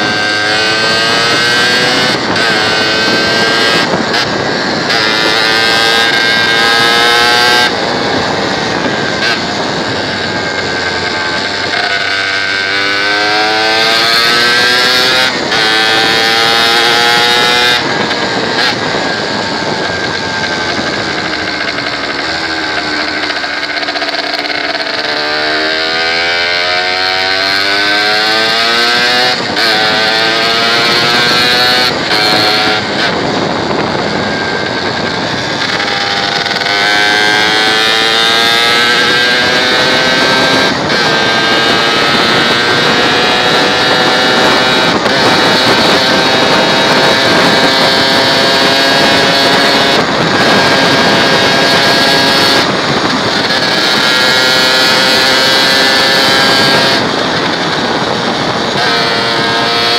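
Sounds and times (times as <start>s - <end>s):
motorcycle engine accelerating: 0.0s - 59.9s
wind and tyre noise: 0.0s - 59.9s.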